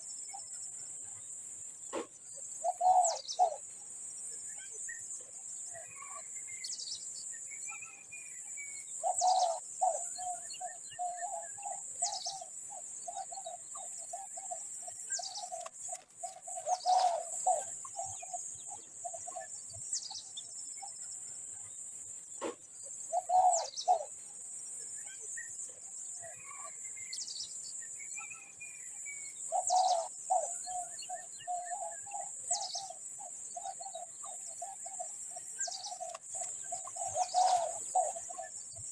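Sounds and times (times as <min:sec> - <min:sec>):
steady high-pitched hiss: 0:00.0 - 0:38.9.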